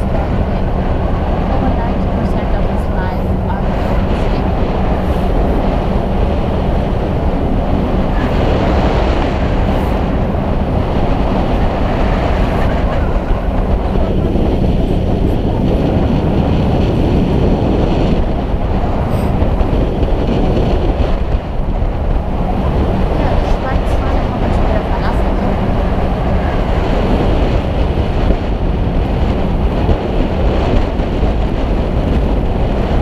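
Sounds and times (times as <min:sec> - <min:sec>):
boat engine droning: 0:00.0 - 0:33.0
rushing wind and water: 0:00.0 - 0:33.0.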